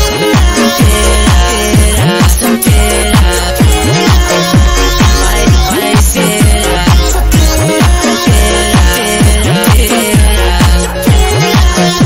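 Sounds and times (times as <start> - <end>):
electronic dance music: 0.0 - 12.0
sliding heavy bass: 0.0 - 12.0.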